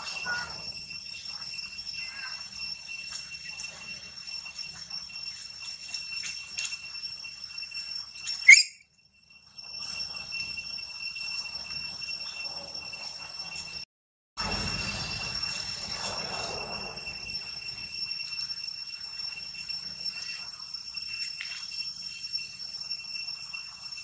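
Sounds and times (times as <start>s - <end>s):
high-pitched ringing drone: 0.0s - 24.0s
sharp rising squeak: 0.0s - 24.0s.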